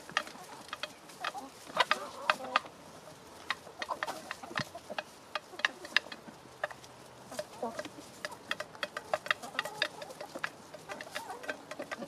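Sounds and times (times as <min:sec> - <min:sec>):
chicken clucks: 0:00.0 - 0:12.0
chickens pecking at food: 0:00.0 - 0:12.0.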